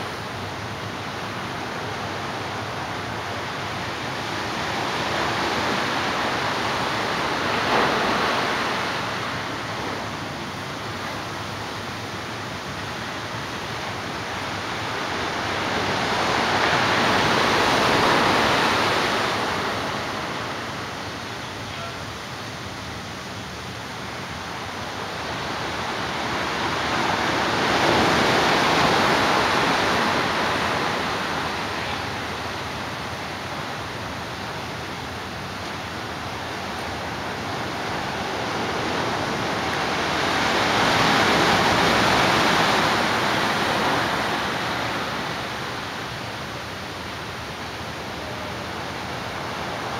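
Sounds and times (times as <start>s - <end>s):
ocean surf breaking on sand: 0.0s - 49.9s.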